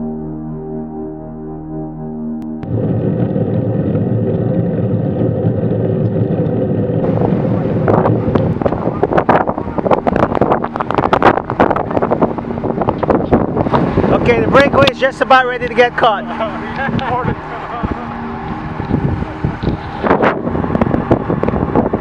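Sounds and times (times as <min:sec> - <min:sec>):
wind buffeting thumps: 0:02.6 - 0:22.0
wind rushing over microphone: 0:02.6 - 0:22.0.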